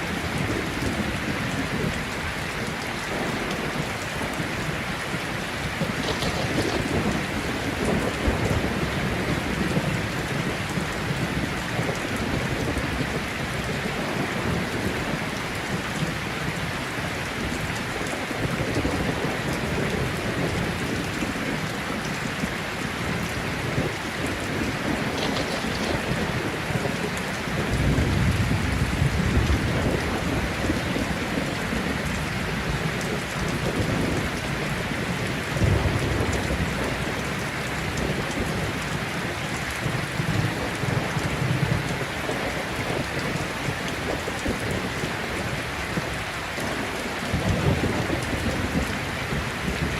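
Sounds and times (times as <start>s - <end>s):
steady rain falling: 0.0s - 49.9s
thunder rumbling: 0.0s - 49.9s.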